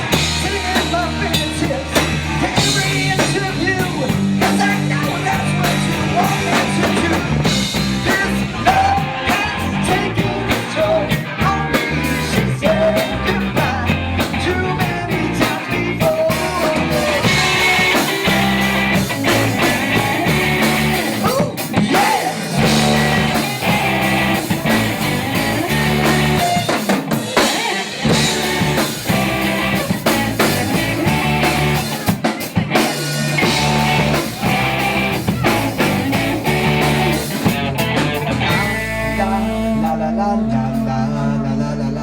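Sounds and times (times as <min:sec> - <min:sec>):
drum kit: 0:00.0 - 0:40.0
electric guitar: 0:00.0 - 0:41.3.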